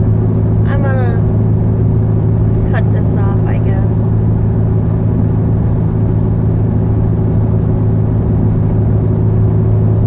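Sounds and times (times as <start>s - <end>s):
car engine hum and road noise: 0.0s - 10.0s.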